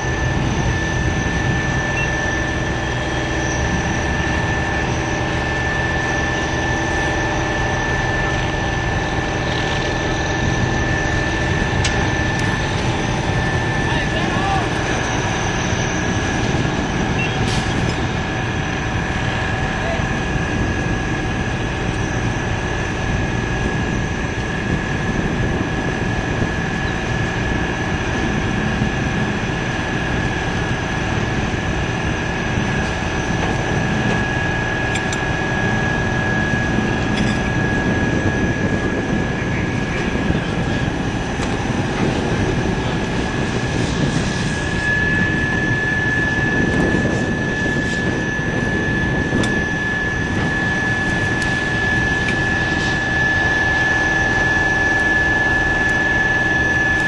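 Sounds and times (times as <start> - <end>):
high whine: 0.0 - 57.0
vehicle engines rumbling: 0.0 - 57.0.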